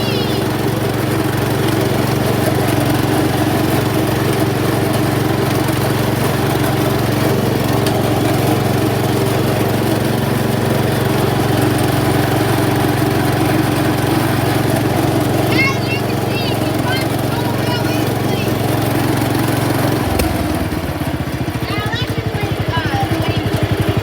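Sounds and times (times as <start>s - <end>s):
lawn tractor engine running: 0.0s - 24.0s.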